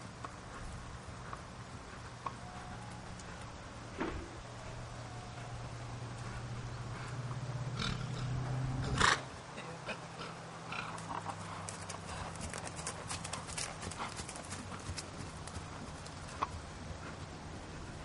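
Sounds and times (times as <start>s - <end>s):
horse hoofbeats on grass: 0.0s - 8.0s, 10.9s - 18.0s
steady low hum: 0.0s - 18.0s.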